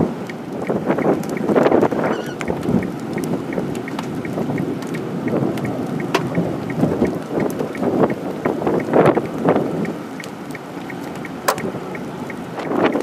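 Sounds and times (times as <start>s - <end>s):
gusty wind buffeting microphone: 0.0s - 13.0s
raindrops tapping: 0.0s - 13.0s.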